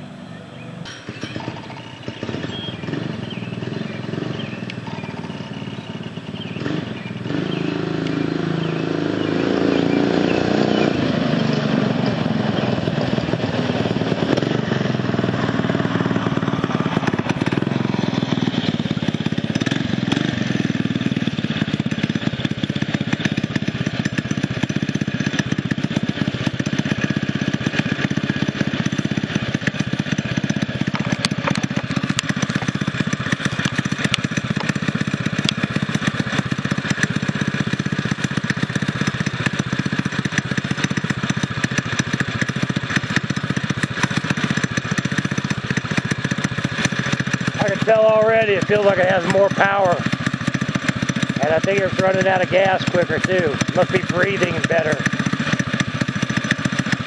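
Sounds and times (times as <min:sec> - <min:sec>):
mini bike engine running: 0:00.0 - 0:57.0.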